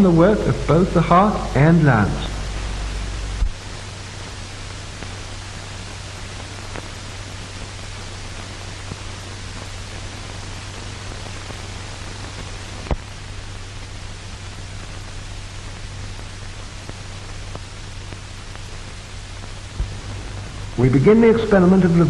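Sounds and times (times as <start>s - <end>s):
film soundtrack hiss and hum: 0.0s - 22.0s.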